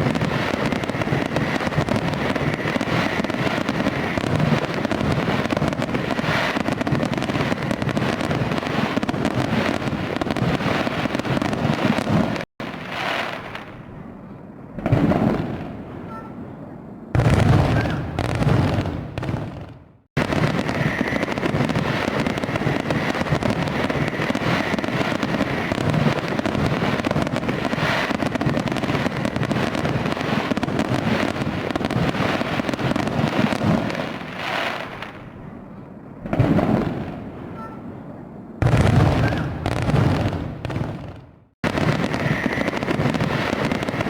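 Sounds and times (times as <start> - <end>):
fireworks exploding and crackling: 0.0 - 44.0.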